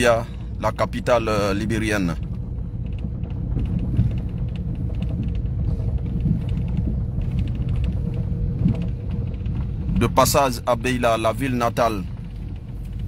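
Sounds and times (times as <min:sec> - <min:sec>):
car road and engine rumble: 0:00.0 - 0:13.0
interior creaks and rattles: 0:00.0 - 0:13.0.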